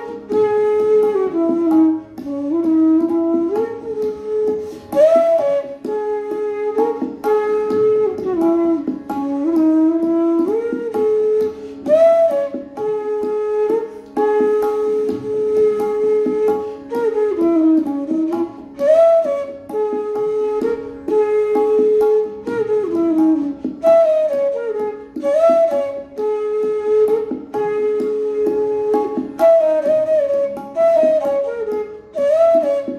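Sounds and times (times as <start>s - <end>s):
bamboo flute slow melody: 0.0s - 32.9s.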